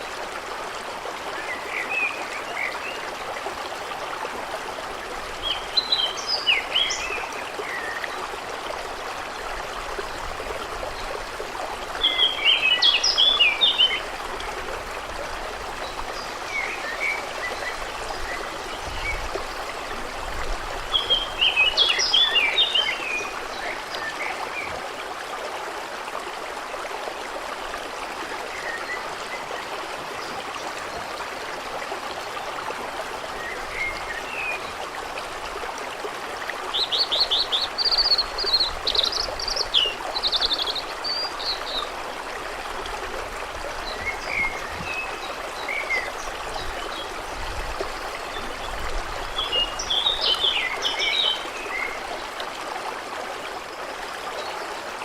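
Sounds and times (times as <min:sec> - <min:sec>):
stream running: 0:00.0 - 0:55.0.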